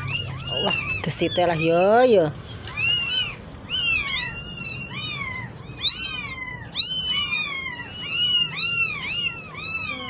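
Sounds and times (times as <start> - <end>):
kittens mewing: 0.0 - 10.0.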